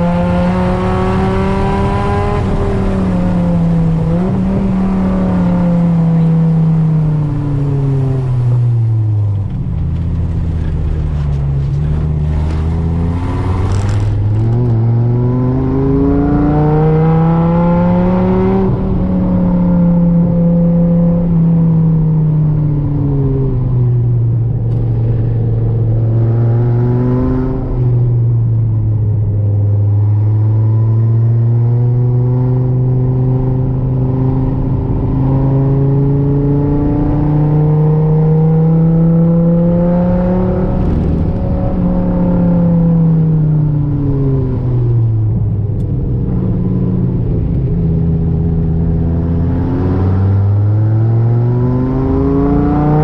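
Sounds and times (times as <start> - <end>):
car engine exhaust roar: 0.0 - 53.0.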